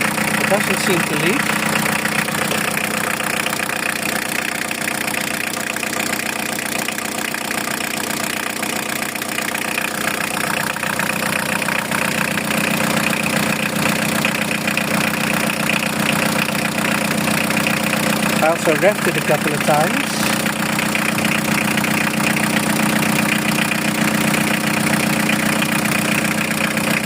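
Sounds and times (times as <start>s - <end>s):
van engine idling: 0.0s - 27.0s.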